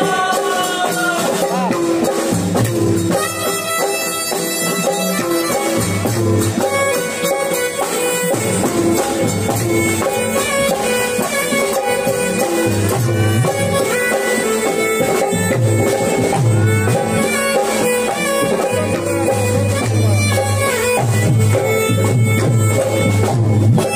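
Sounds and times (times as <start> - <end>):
drums: 0.0 - 23.9
deep beat: 1.4 - 23.9.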